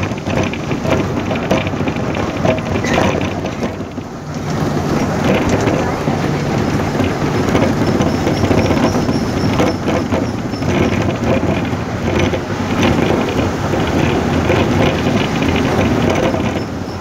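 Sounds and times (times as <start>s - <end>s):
rain on a moving vehicle: 0.0s - 17.0s
road and engine noise: 0.0s - 17.0s.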